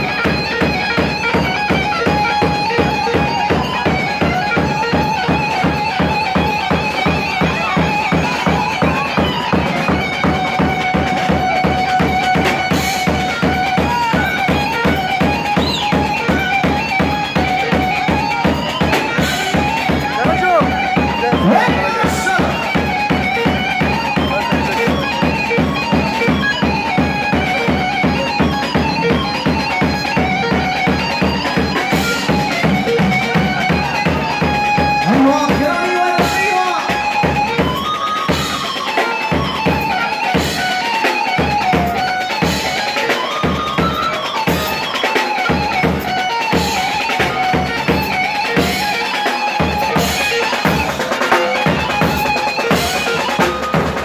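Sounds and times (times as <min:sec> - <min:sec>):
fast drum-kit beat: 0:00.0 - 0:54.0
reedy lead melody: 0:00.0 - 0:54.0.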